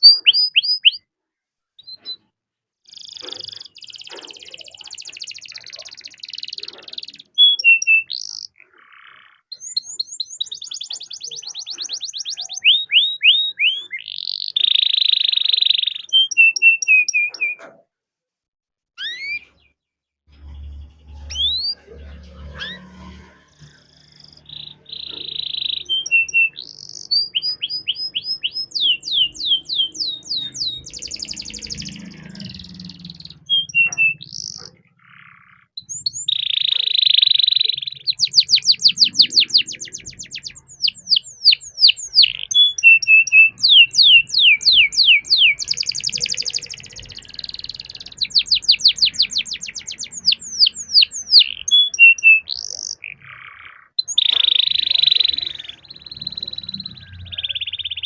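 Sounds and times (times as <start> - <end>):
canary singing: 0.0 - 1.1, 1.8 - 2.3, 2.9 - 17.8, 19.0 - 58.0.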